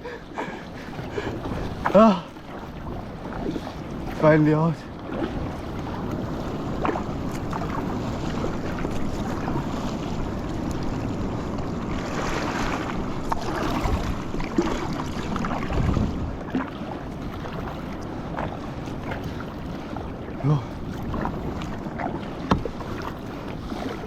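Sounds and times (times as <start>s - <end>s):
water splashing around a boat: 0.0s - 24.0s
wind buffeting microphone: 0.0s - 24.0s.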